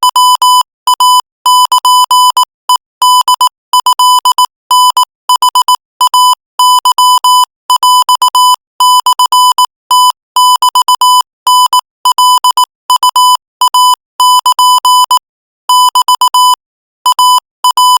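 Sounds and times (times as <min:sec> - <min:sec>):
morse code beeps: 0:00.0 - 0:18.0.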